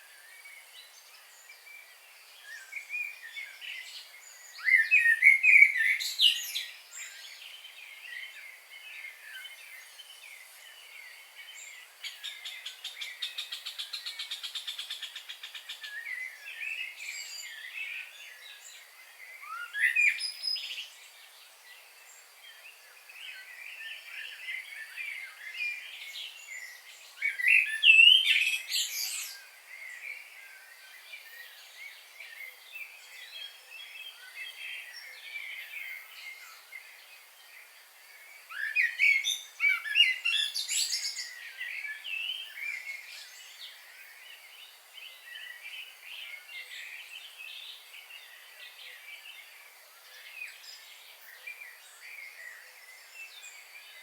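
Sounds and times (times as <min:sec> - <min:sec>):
birds singing and calling: 0:00.0 - 0:54.0.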